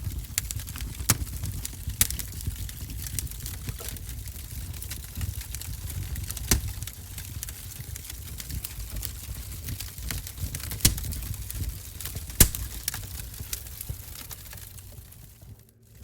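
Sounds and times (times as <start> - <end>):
wood fire crackling in a stove: 0.0 - 16.0.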